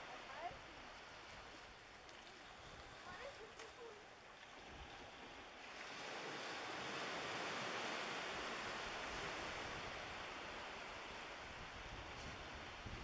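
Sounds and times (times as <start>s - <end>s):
small waves washing on shore: 0.0s - 13.0s.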